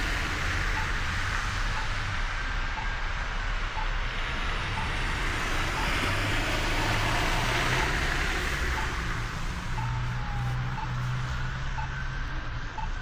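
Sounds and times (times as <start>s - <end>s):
bicycle road and wind noise: 0.0s - 13.0s
traffic: 0.0s - 13.0s.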